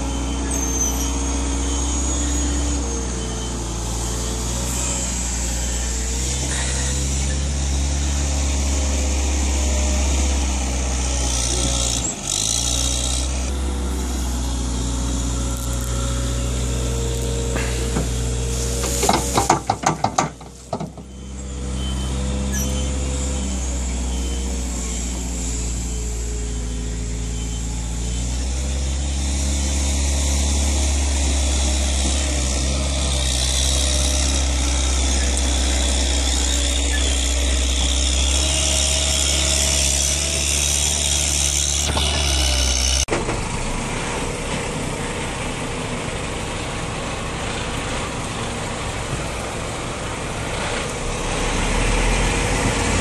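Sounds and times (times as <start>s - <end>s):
loader engine running: 0.0s - 53.0s.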